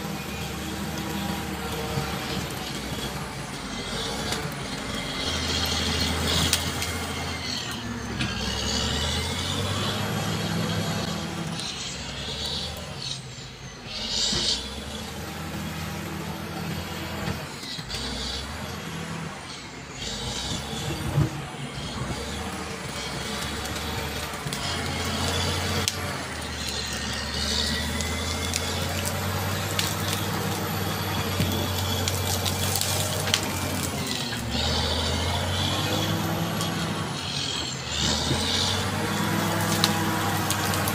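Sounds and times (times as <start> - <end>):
bulldozer diesel engine working: 0.0 - 40.9.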